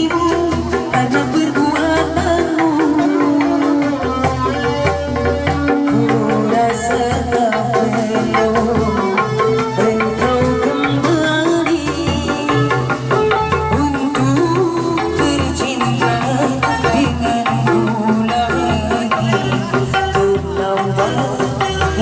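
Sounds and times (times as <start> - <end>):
hand drums beating: 0.0 - 22.0.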